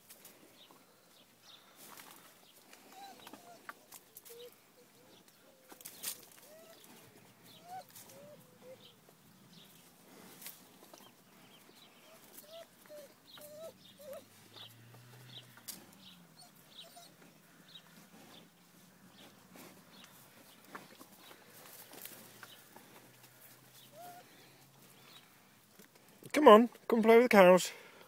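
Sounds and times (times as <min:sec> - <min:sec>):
rustling: 0:01.5 - 0:26.2.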